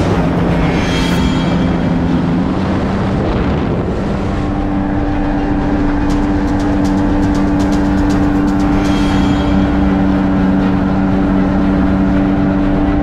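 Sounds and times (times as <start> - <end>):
jet ski engine drone: 0.0 - 13.0
water rushing under hull: 0.0 - 13.0.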